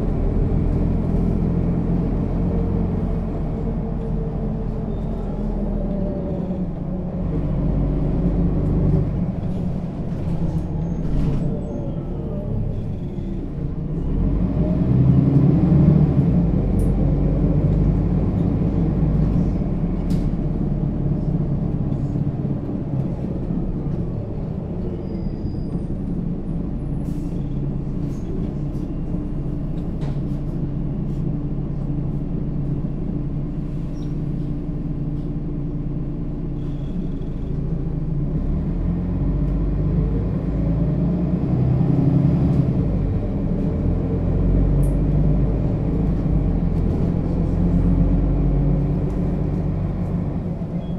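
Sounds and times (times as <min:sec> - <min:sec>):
bus diesel engine droning: 0:00.0 - 0:50.9.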